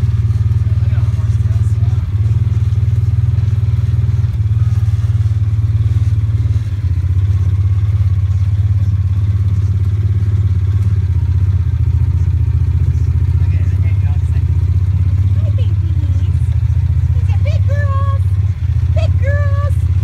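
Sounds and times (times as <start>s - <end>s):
utility vehicle engine driving: 0.0s - 20.0s.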